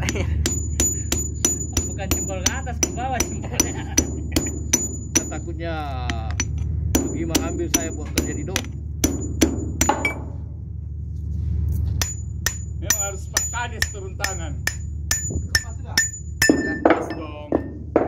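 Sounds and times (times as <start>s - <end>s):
hammer clanging on metal: 0.0s - 10.3s, 12.0s - 18.0s
low hum: 0.0s - 18.0s.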